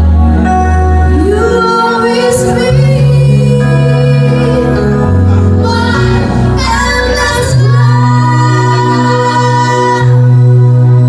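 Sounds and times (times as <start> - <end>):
woman singing with accompaniment: 1.0 - 11.0.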